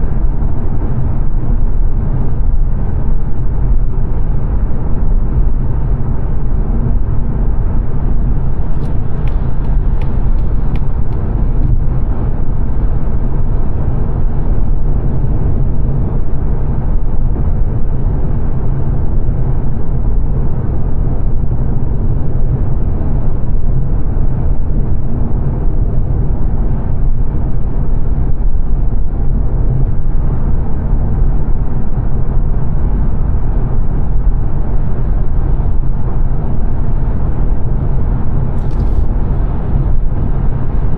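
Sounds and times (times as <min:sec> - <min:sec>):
road and tyre noise in car: 0:00.0 - 0:40.9.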